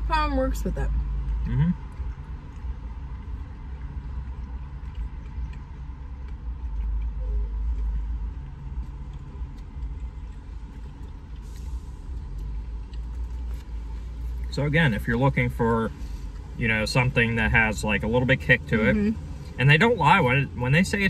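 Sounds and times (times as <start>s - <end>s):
car rumble inside cabin: 0.0s - 21.0s.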